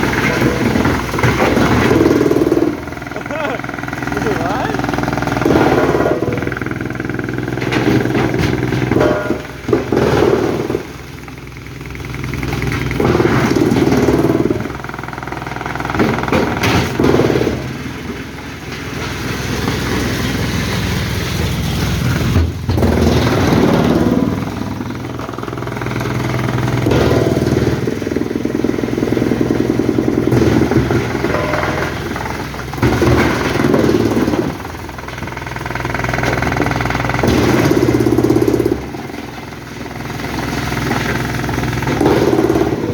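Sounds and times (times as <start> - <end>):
heavy machinery engine running: 0.0 - 42.9.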